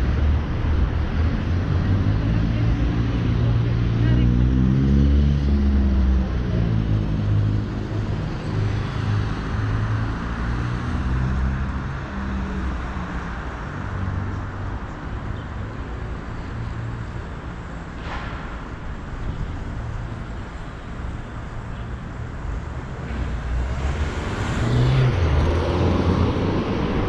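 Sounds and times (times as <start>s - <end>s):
car engines humming: 0.0s - 27.0s.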